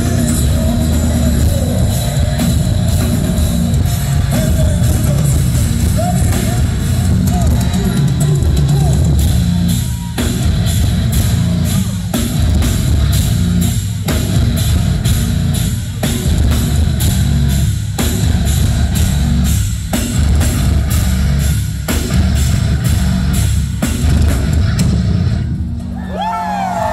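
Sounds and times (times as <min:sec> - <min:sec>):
heavy rock band playing live: 0:00.0 - 0:26.9.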